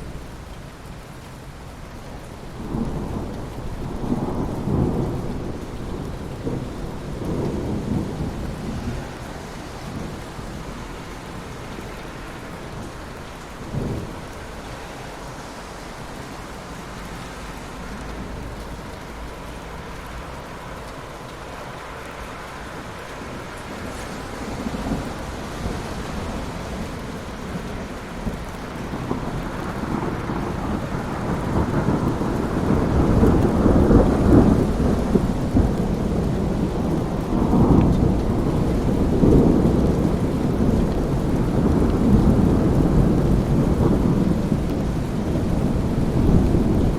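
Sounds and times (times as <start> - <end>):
steady rain: 0.0 - 46.9
low thunder rumbles: 2.5 - 46.9.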